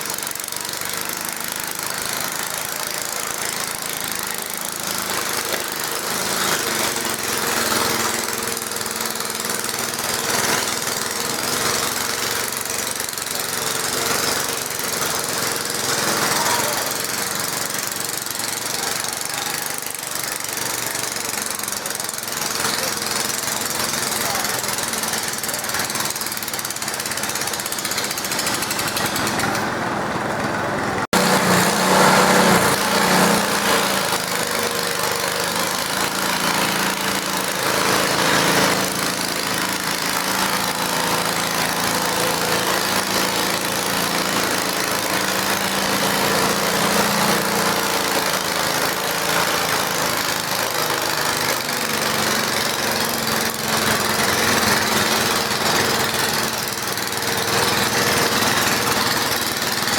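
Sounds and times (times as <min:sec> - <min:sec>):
tractor engine running roughly: 0:00.0 - 0:59.9.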